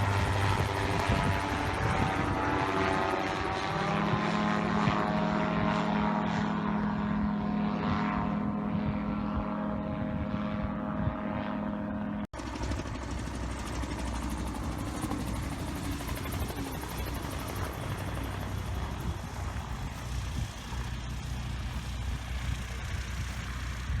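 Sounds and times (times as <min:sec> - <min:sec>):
aircraft engine rumbling: 0:00.0 - 0:24.0.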